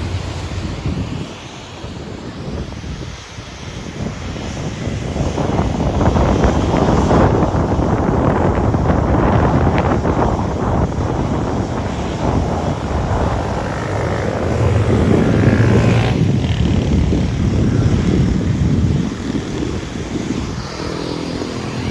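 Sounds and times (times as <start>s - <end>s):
jet airliner landing: 0.0s - 21.9s.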